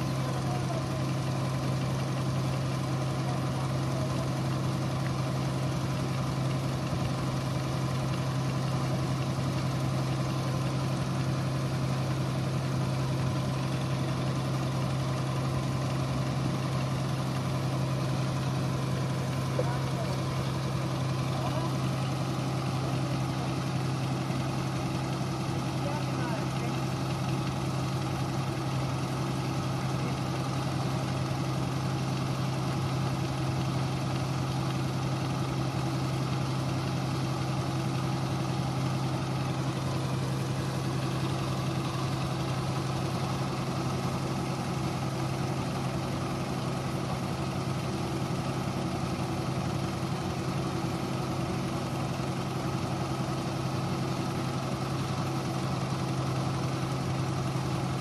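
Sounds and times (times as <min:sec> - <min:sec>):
combine harvester running: 0:00.0 - 0:58.0
diesel tractor engine idling: 0:00.0 - 0:58.0.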